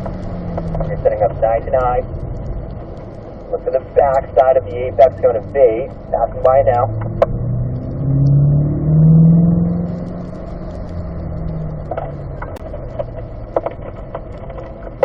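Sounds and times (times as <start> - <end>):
car engine pulling under throttle: 0.0 - 15.0.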